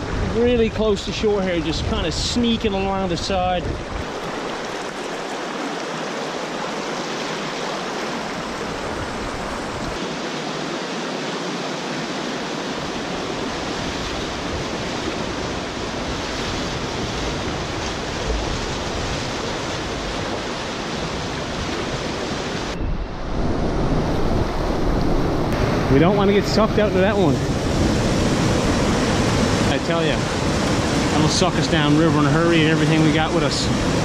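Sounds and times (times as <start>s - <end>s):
river rapids roaring: 3.9s - 34.0s.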